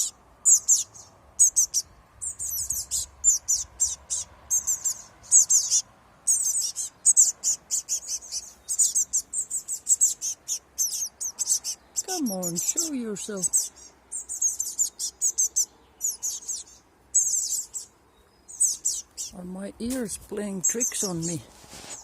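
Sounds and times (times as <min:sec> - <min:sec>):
fledgling birds chirping: 0:00.0 - 0:22.0.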